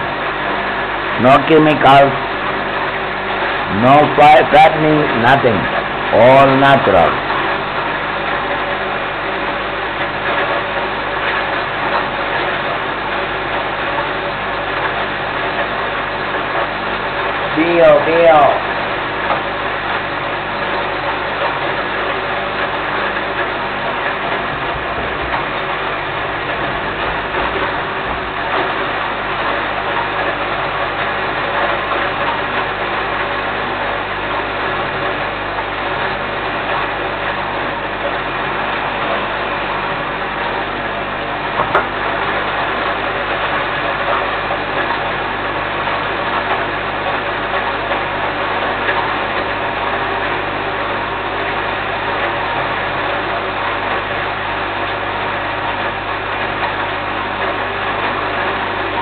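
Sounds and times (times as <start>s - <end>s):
electric grain mill grinding: 0.0s - 59.0s.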